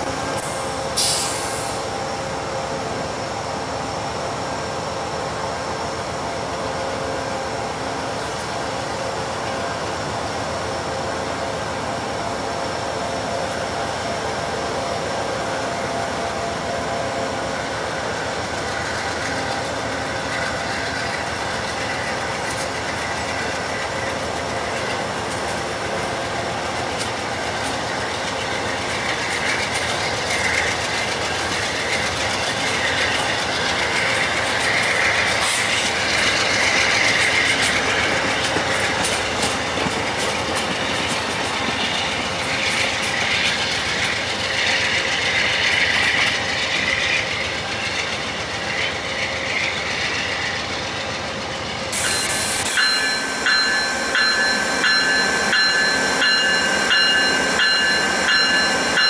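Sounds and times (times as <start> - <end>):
train cars rolling on rails: 0.0 - 59.0.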